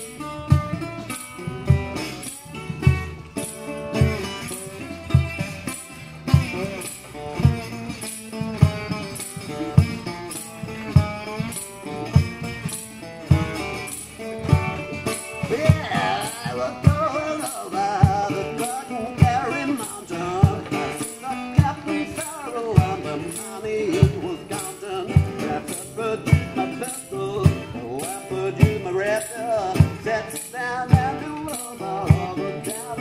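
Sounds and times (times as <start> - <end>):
jingling tambourine-like shimmer: 0.0 - 33.0
resonator guitar groove: 0.0 - 33.0.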